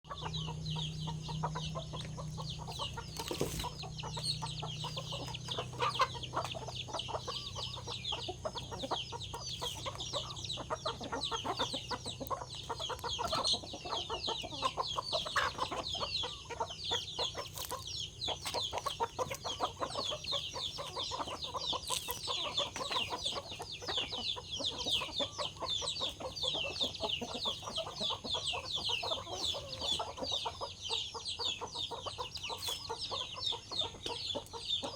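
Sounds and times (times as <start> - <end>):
chickens clucking: 0.0 - 34.9
chicks peeping: 0.0 - 34.9.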